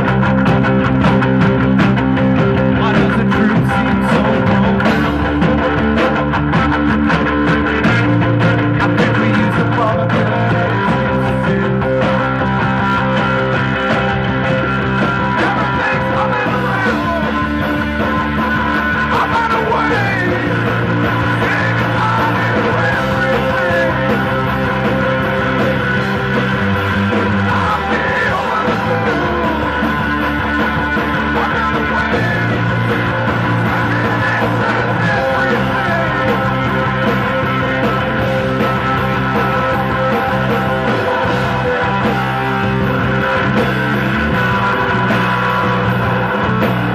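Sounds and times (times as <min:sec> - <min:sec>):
drum kit: 0:00.0 - 0:46.9
electric bass: 0:00.0 - 0:46.9
electric guitar: 0:00.0 - 0:46.9.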